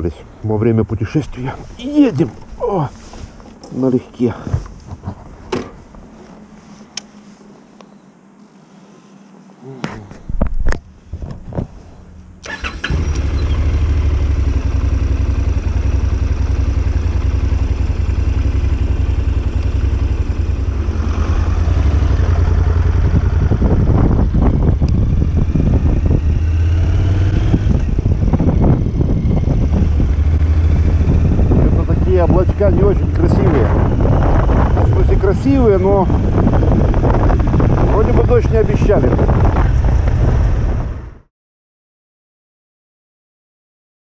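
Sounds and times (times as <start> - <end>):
motorcycle engine rumbling: 0.0 - 7.5, 9.6 - 41.2.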